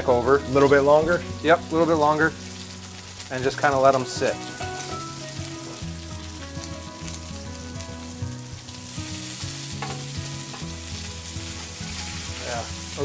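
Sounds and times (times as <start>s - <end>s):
meat frying in oil: 0.0s - 13.0s.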